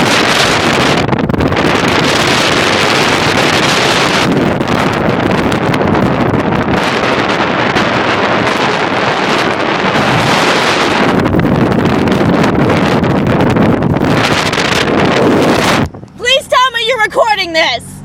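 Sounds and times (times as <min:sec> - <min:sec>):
wind buffeting microphone: 0:00.0 - 0:17.8
vehicle road noise: 0:00.0 - 0:18.0.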